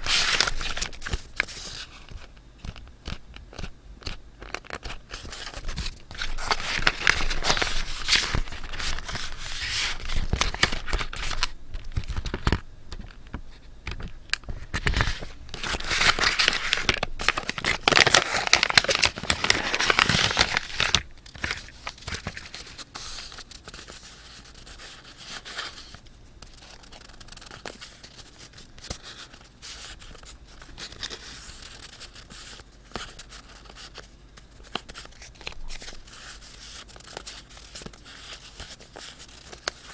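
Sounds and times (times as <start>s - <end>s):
paper rustling and tearing: 0.0s - 2.2s, 4.5s - 12.4s, 14.6s - 39.9s.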